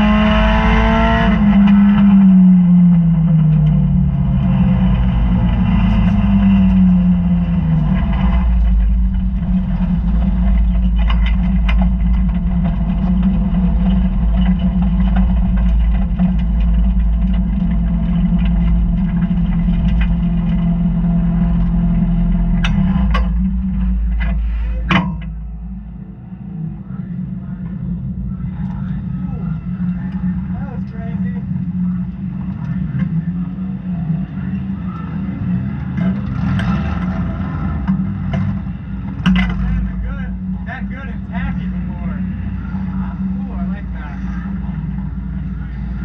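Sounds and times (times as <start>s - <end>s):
race car engine from cockpit: 0.0s - 46.0s.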